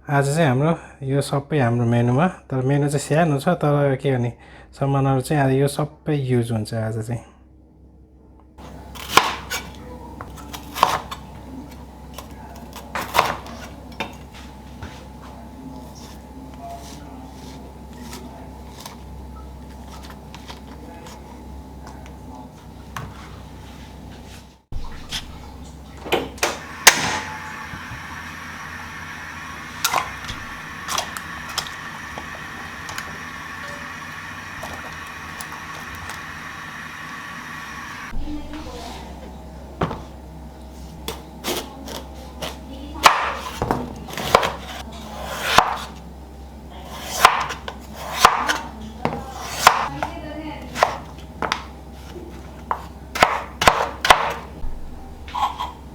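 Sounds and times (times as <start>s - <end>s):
faint steady hum: 7.2s - 55.9s.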